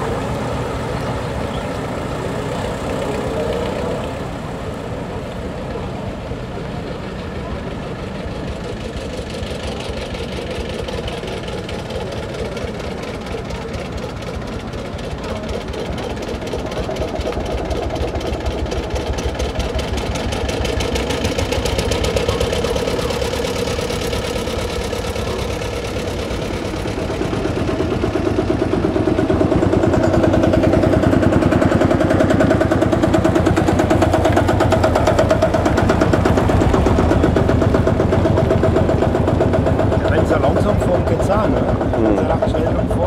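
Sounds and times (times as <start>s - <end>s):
tractor diesel engines chugging: 0.0s - 43.0s.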